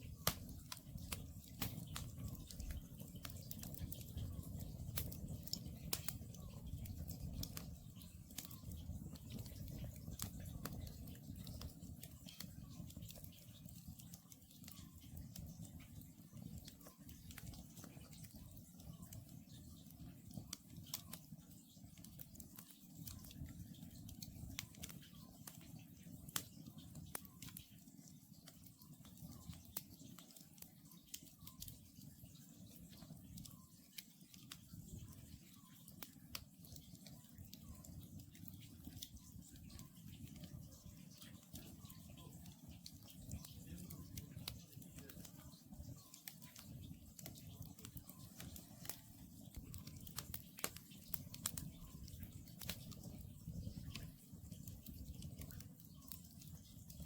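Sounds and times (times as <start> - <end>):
campfire crackling and popping: 0.0 - 57.0
low rumble of burning logs: 0.0 - 57.0.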